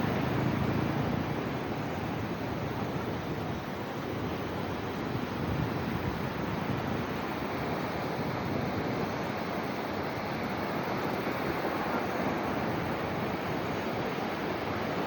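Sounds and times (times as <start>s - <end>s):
sea waves washing in: 0.0s - 15.0s
wind on microphone: 0.0s - 15.0s.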